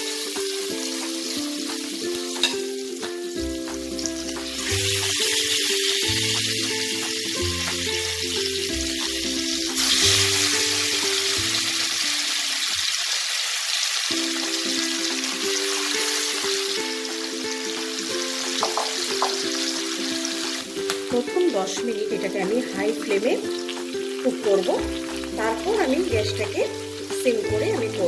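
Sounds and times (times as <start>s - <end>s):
chicken sizzling in oil: 0.0s - 28.0s.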